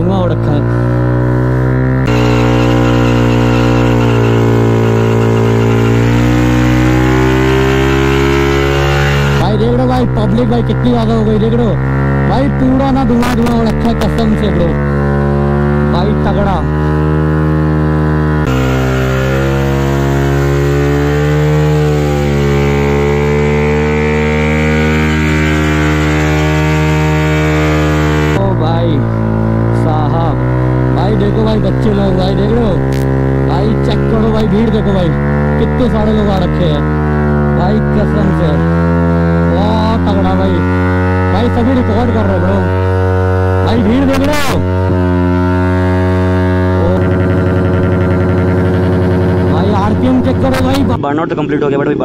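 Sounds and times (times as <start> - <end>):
motorcycle engine revving high: 0.0 - 52.0.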